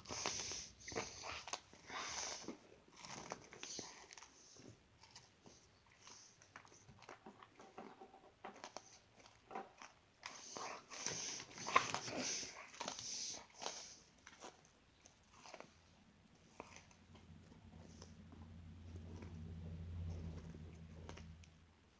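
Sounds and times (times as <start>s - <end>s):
crunching cookies: 0.0s - 7.8s, 8.4s - 21.6s.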